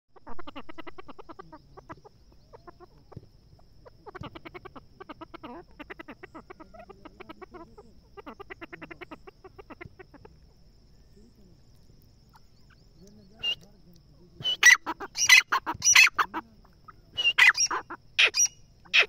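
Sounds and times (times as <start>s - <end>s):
francolin calling: 0.2s - 19.0s.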